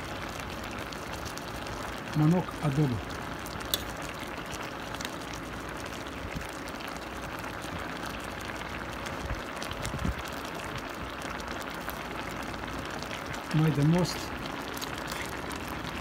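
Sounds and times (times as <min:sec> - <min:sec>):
sauce bubbling in a pot: 0:00.0 - 0:16.0.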